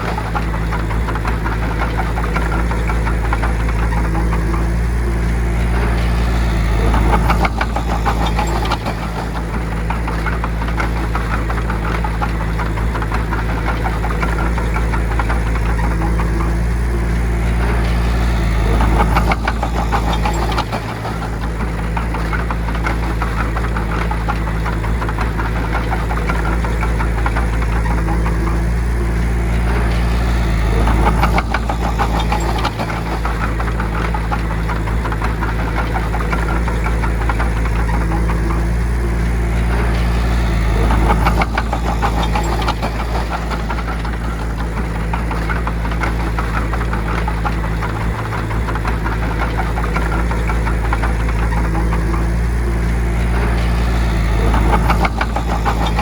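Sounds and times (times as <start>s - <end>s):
bulldozer diesel engine running: 0.0s - 56.0s
fast mechanical clatter: 0.0s - 56.0s.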